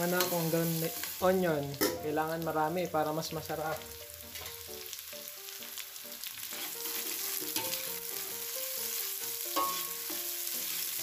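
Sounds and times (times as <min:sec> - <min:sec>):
onions sizzling in hot oil: 0:00.0 - 0:11.0
soft background melody: 0:00.0 - 0:11.0.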